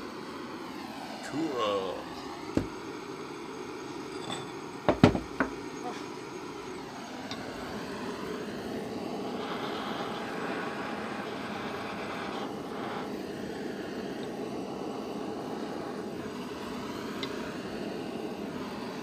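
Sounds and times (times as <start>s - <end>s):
blowtorch hissing: 0.0s - 19.0s.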